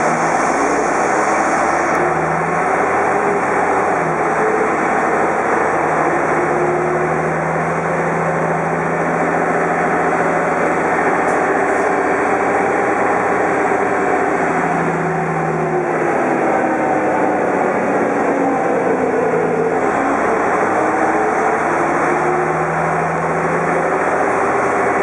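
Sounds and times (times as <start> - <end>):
bus engine drone: 0.0 - 25.0
road noise: 0.0 - 25.0.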